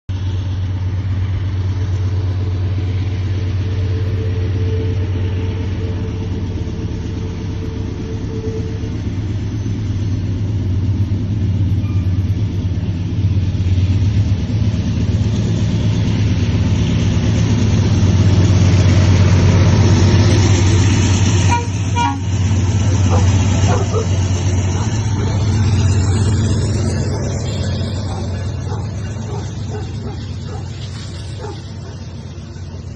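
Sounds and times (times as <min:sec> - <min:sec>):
diesel locomotive engine rumble: 0:00.1 - 0:32.9.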